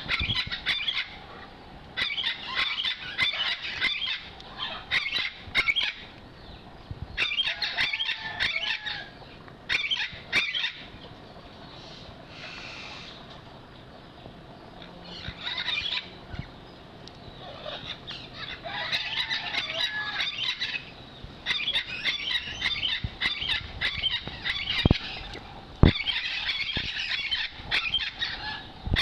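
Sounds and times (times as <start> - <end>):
animals squealing and chattering: 0.0 - 13.4, 14.7 - 29.0.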